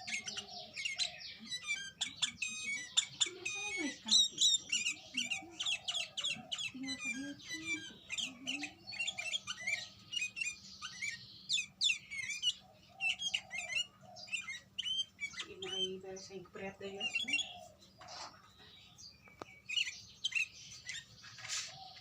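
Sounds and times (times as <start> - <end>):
bird chirping and squeaking: 0.0 - 22.0.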